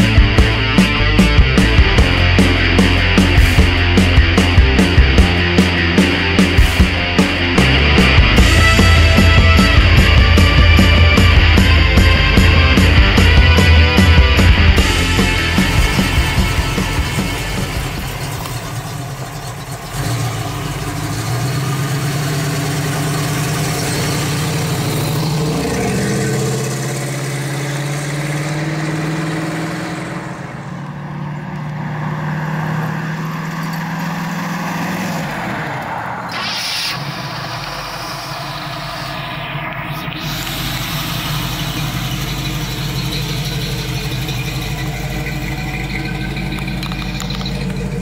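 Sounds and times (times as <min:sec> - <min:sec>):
car engine driving off: 0:00.0 - 0:48.0.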